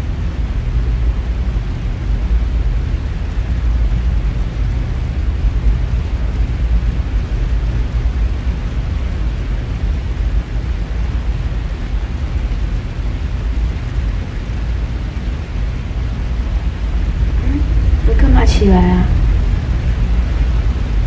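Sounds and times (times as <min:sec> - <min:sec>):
deep low rumble: 0:00.0 - 0:21.0
rainstorm rushing: 0:00.0 - 0:21.0.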